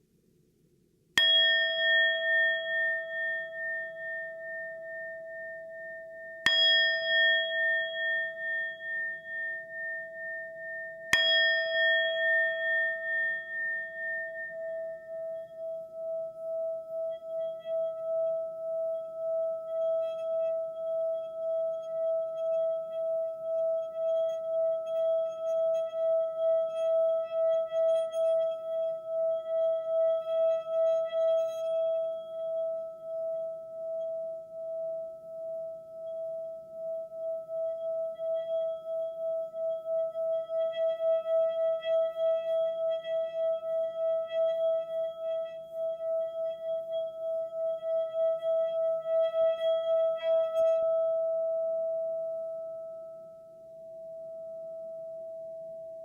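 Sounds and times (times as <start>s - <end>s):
bell-like ringing tone: 1.2s - 56.0s.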